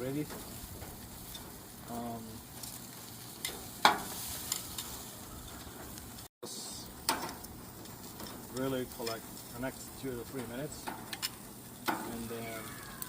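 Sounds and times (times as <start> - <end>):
meat skewers sizzling on a grill: 0.0 - 13.0.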